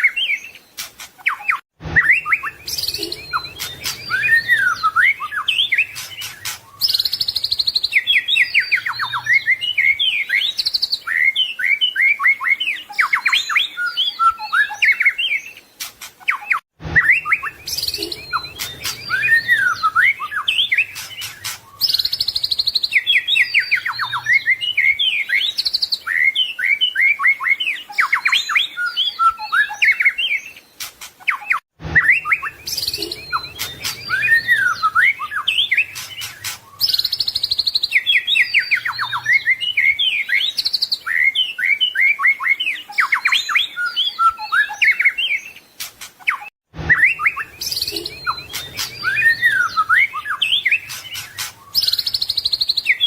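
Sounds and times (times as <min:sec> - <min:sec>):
songbird singing trills and whistles: 0:00.0 - 0:53.0.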